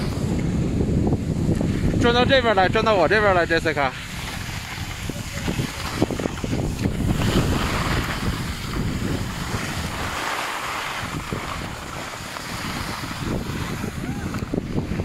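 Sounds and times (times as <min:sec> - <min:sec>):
skis sliding over snow: 0:00.0 - 0:00.5, 0:01.5 - 0:15.0
wind buffeting microphone: 0:00.0 - 0:15.0.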